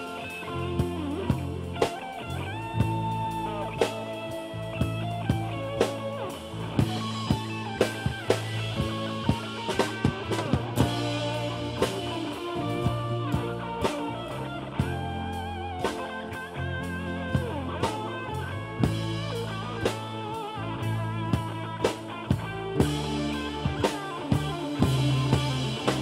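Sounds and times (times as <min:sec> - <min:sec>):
bass guitar: 0:00.0 - 0:26.0
drum kit beat: 0:00.0 - 0:26.0
electric guitar bent notes: 0:00.0 - 0:26.0.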